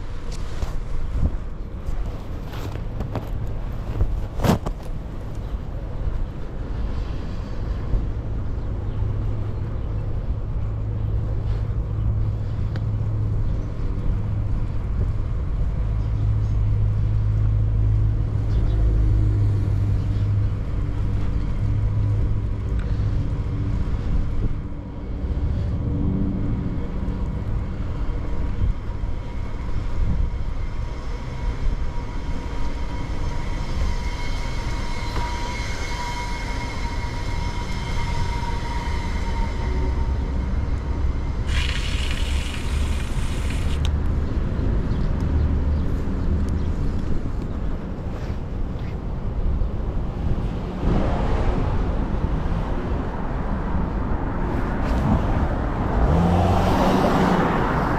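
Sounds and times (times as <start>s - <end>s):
road traffic rumble: 0.0s - 57.9s.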